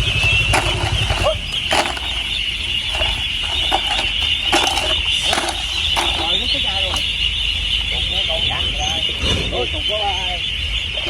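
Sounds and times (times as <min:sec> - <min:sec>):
flock of ducks calling: 0:00.0 - 0:11.0
low engine hum: 0:00.0 - 0:11.0.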